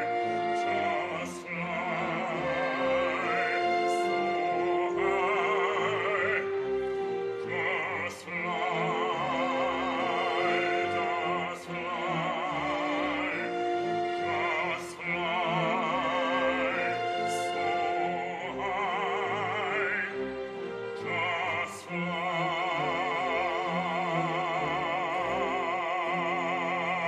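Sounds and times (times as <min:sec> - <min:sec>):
operatic singing: 0:00.0 - 0:27.0.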